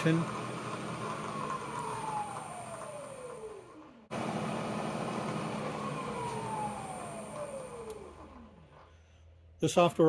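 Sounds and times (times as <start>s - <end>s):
mill spindle motor whine: 0.0s - 9.1s.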